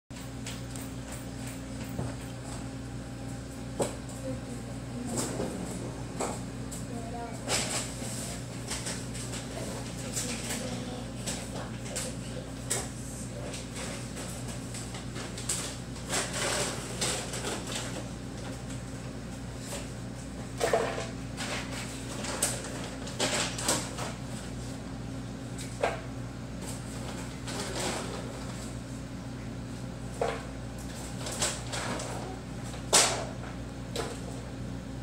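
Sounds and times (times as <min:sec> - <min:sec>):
aquarium pumps humming: 0:00.1 - 0:35.0.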